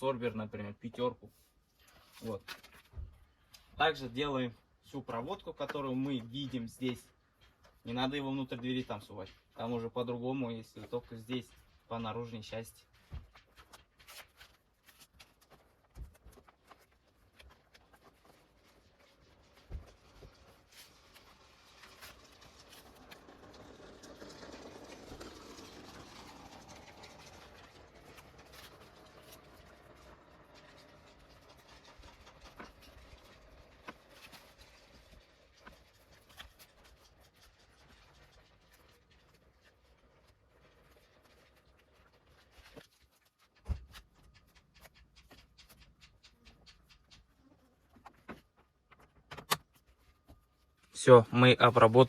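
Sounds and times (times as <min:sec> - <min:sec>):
tape rustling: 0:01.3 - 0:03.8, 0:10.6 - 0:51.0.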